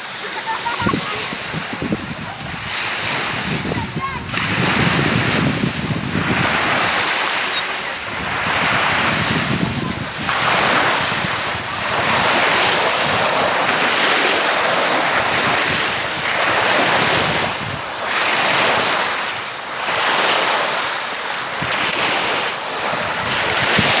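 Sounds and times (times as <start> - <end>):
waves washing onto shore: 0.0 - 24.0
wind: 0.0 - 24.0.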